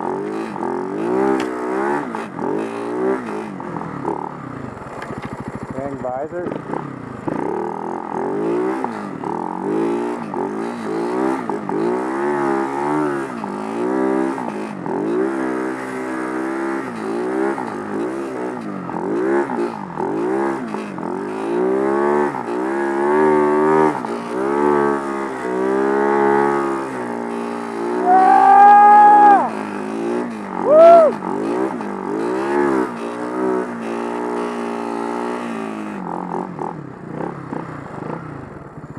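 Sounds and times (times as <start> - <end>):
snow bike engine revving: 0.0 - 38.2.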